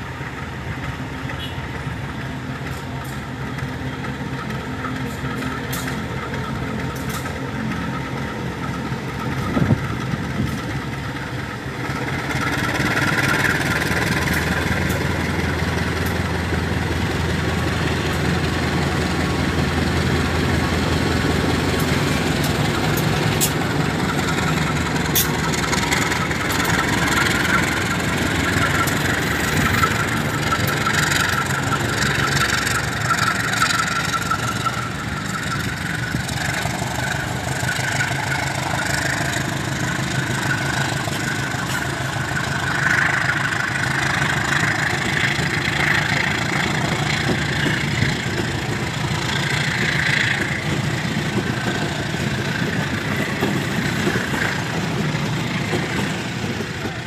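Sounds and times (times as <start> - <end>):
diesel locomotive engine drone: 0.0 - 57.0
passenger coaches rolling past: 0.0 - 57.0
wheels clicking: 2.6 - 57.0.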